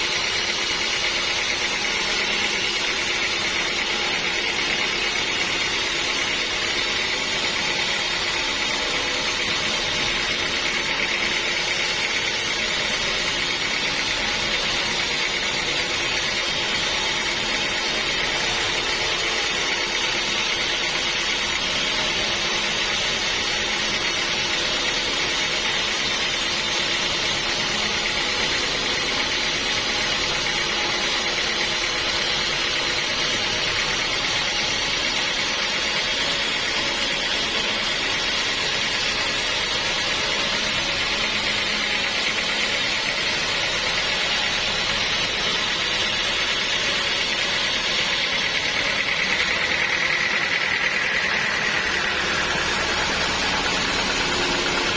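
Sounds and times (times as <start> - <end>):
sawmill machinery hiss: 0.0 - 54.9.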